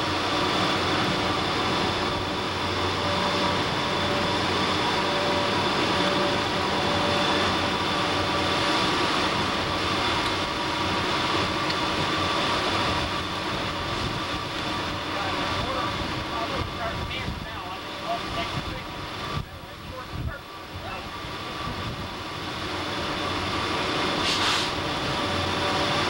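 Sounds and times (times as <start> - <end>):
locomotive engine and rail drone: 0.0 - 26.0.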